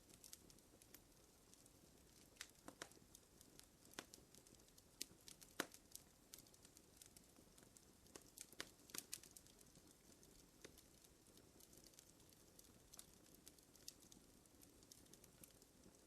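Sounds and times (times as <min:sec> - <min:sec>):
soft low hiss of fire: 0:00.0 - 0:16.0
wood fire popping and snapping: 0:00.0 - 0:16.0.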